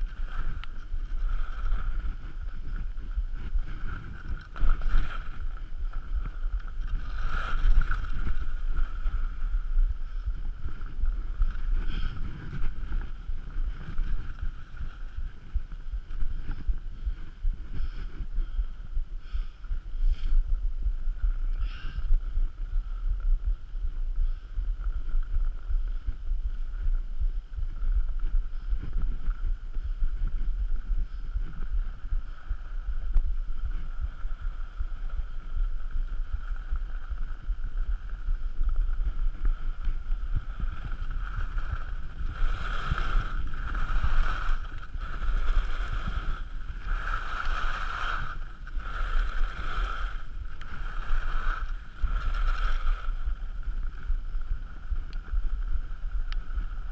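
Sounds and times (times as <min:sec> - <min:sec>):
skis scraping on snow: 0:00.0 - 0:18.6, 0:28.5 - 0:56.9
wind buffeting microphone: 0:00.0 - 0:56.9.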